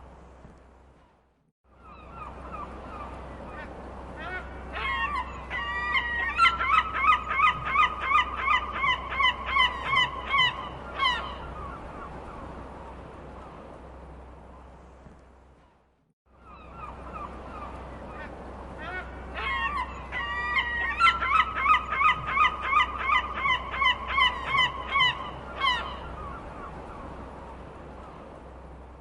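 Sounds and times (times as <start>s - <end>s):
seagulls calling: 1.7s - 13.7s, 16.4s - 28.3s.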